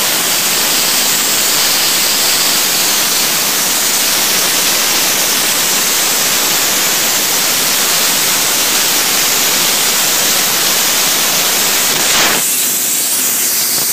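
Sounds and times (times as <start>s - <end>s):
ice-blasting jet hissing: 0.0s - 13.9s.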